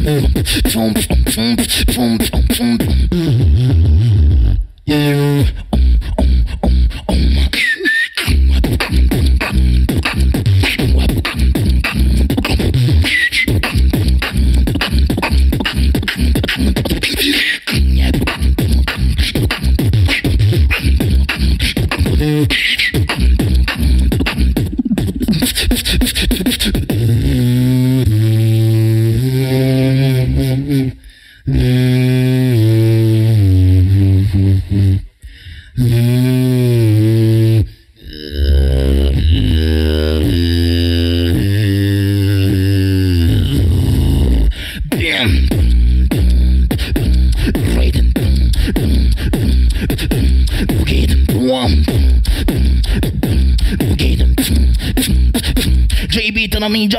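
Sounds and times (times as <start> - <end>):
hummed bass line: 0.0 - 7.5, 8.3 - 17.0, 17.7 - 35.1, 35.8 - 56.0
person beatboxing: 0.0 - 56.9.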